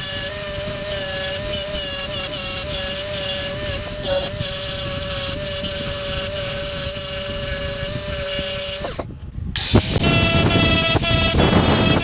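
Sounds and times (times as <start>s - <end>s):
power tool running: 0.0s - 12.0s
rotary tool sanding metal: 0.0s - 12.0s.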